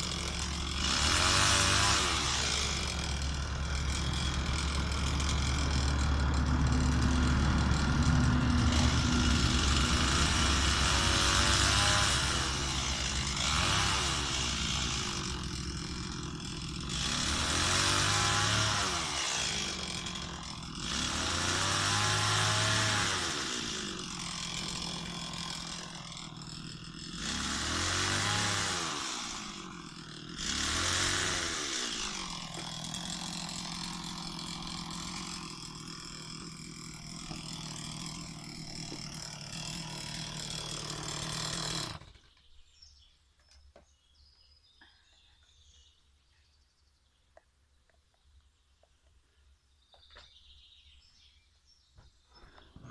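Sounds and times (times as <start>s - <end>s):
chainsaw revving: 0.0s - 42.4s.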